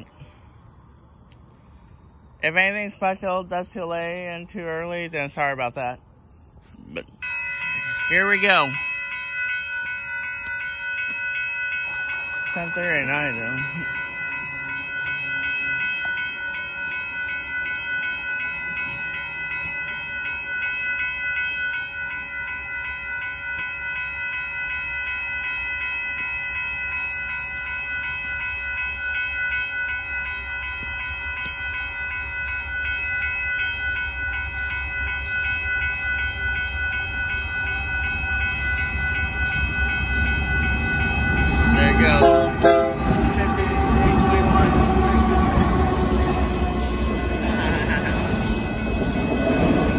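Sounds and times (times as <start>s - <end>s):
railroad crossing bell ringing: 1.7s - 6.3s, 7.0s - 49.9s
freight train rumble: 6.9s - 49.9s.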